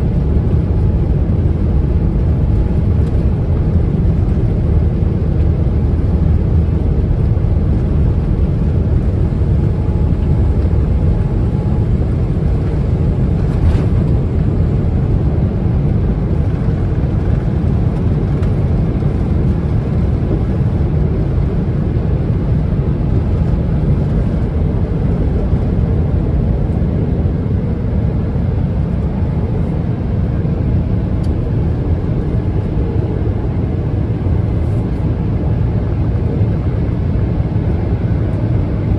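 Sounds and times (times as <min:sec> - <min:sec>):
jet engine rumble inside cabin: 0:00.0 - 0:38.9.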